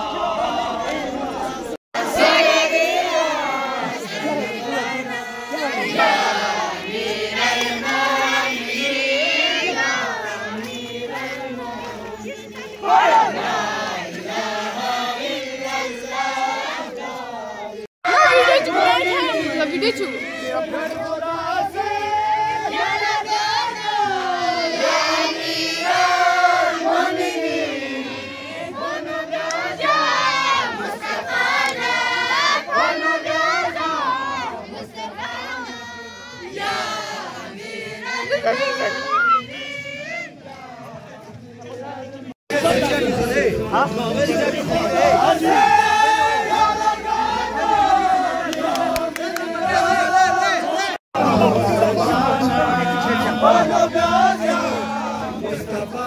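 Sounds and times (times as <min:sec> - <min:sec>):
group of people chanting: 0:00.0 - 0:56.0.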